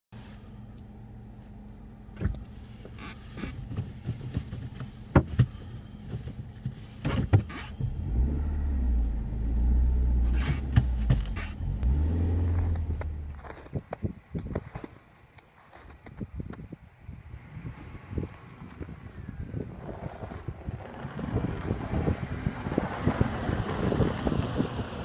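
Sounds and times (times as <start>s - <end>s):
car engine and road noise: 0.1s - 25.0s.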